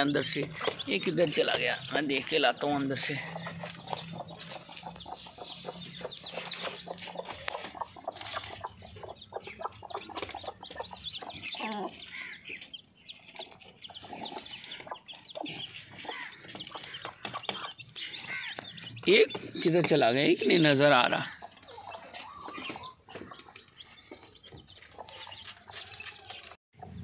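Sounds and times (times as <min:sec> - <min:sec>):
chicks peeping: 0:00.0 - 0:27.0
hen clucking: 0:00.0 - 0:27.0.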